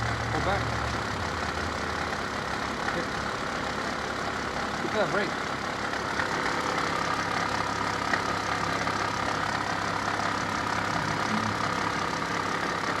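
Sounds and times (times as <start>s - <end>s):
car engine running: 0.0s - 13.0s
constant engine whine: 0.0s - 13.0s.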